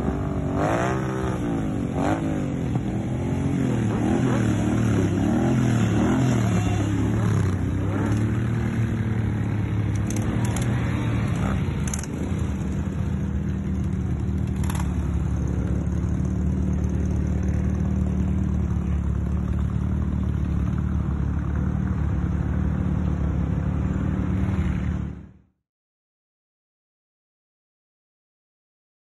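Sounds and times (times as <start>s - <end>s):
vehicles passing close by: 0.0s - 25.5s
trike engines running: 1.6s - 25.2s.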